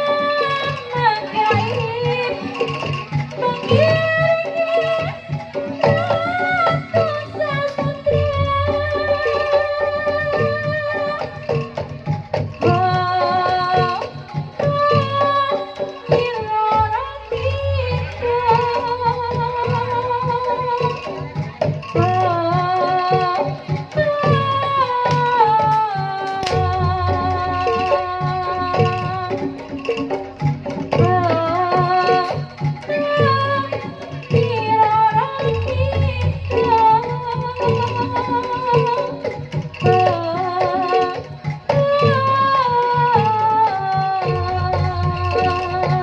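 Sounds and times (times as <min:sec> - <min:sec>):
gamelan melody: 0:00.0 - 0:46.0
hand drum pattern: 0:00.0 - 0:46.0.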